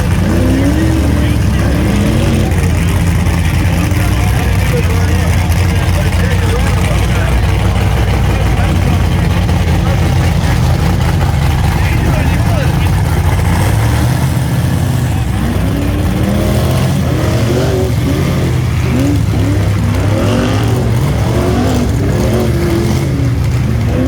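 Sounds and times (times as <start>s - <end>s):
buggy engine revving: 0.0s - 24.0s
voices: 0.0s - 24.0s.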